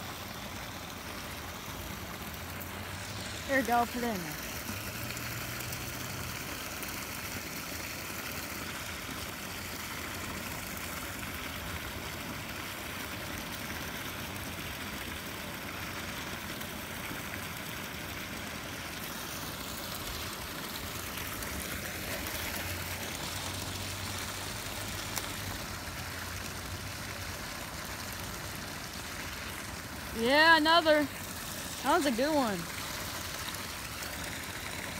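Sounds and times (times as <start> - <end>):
water rushing over spillway: 0.0 - 34.9.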